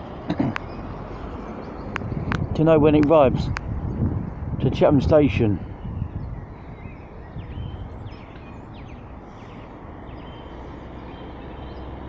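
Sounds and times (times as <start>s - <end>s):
outdoor background rumble: 0.0s - 12.0s
small birds chirping: 0.1s - 12.0s.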